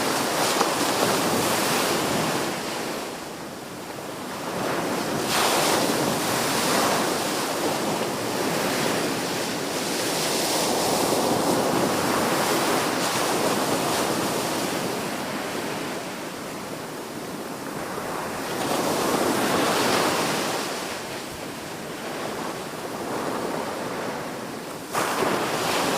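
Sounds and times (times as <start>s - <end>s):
sea waves washing on shore: 0.0s - 25.9s.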